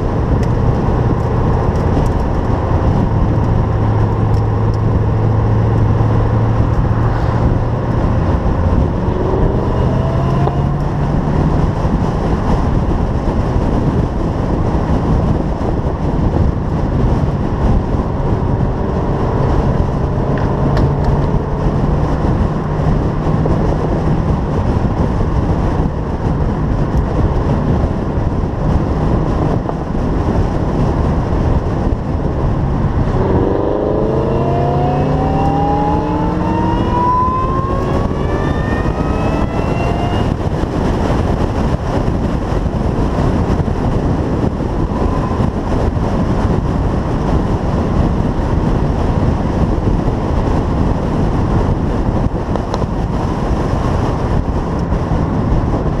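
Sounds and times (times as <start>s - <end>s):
car engine accelerating: 0.0s - 56.0s
rushing noise: 0.0s - 56.0s.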